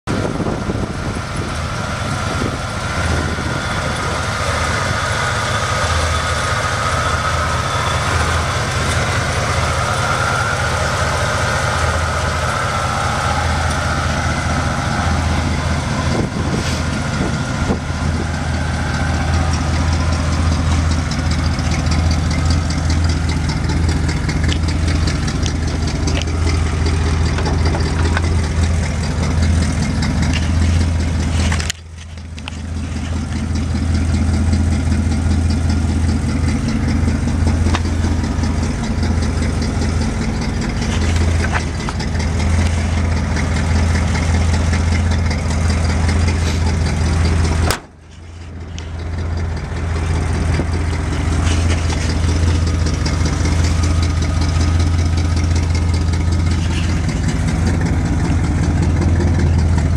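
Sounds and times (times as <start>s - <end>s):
pickup engine idling: 0.0s - 59.9s.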